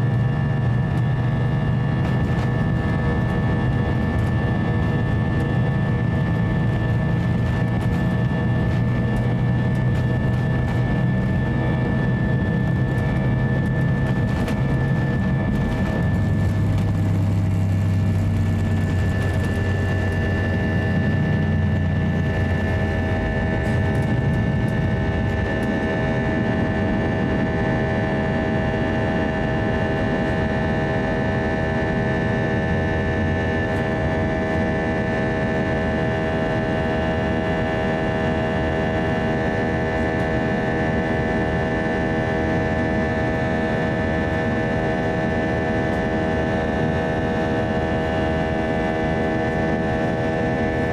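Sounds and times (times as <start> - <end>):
jet engines whining at takeoff: 0.0 - 50.9
wheels rumbling on runway: 0.0 - 50.9.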